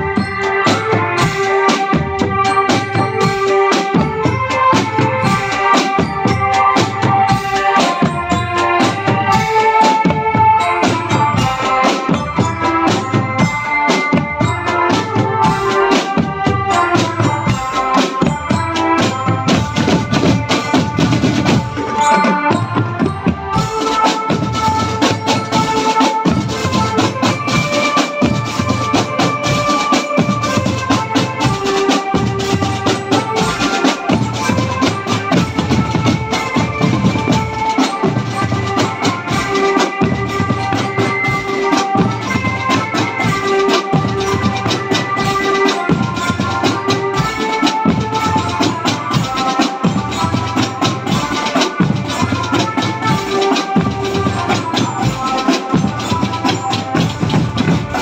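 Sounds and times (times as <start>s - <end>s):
bass and snare drums beating: 0.0s - 58.0s
marching drum band: 0.0s - 58.0s
melody of held notes: 0.0s - 58.0s.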